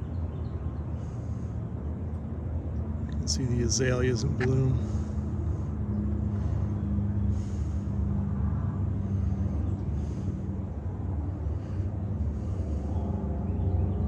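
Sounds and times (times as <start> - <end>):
constant hum: 0.0 - 14.0
vehicle engine rumbling: 0.0 - 14.0.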